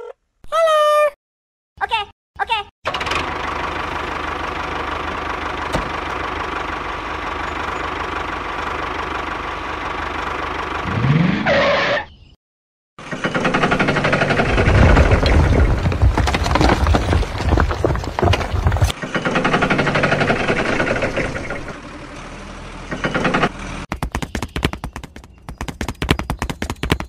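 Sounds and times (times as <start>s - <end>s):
tractor engine running: 2.9s - 10.9s, 13.0s - 27.0s.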